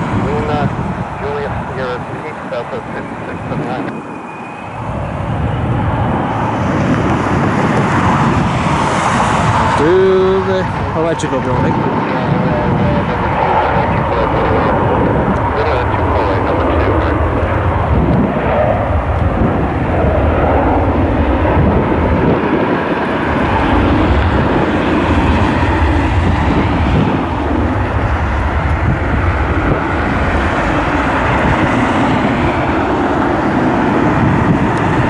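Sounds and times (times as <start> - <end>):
jet engines rumbling: 0.0 - 35.0
wind buffeting microphone: 0.0 - 35.0.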